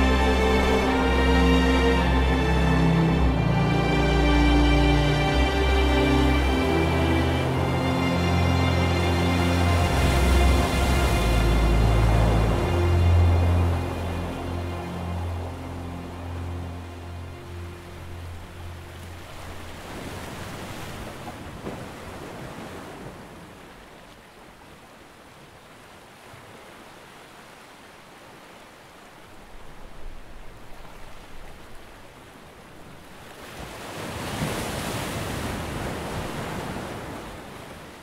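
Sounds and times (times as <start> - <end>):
sea waves washing: 0.0 - 38.0.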